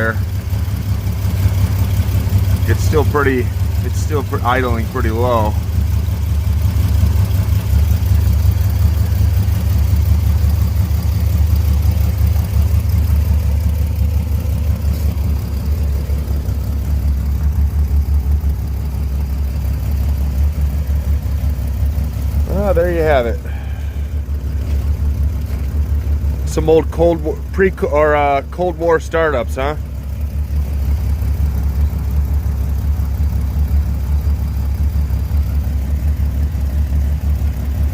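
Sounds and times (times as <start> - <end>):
car engine idling low: 0.0 - 37.9.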